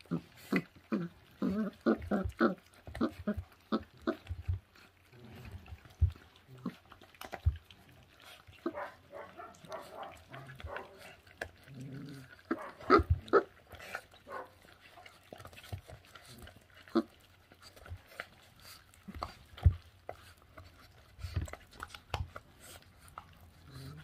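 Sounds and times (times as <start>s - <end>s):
puppies chewing meat: 0.0s - 24.0s
puppies grunting: 0.0s - 24.0s.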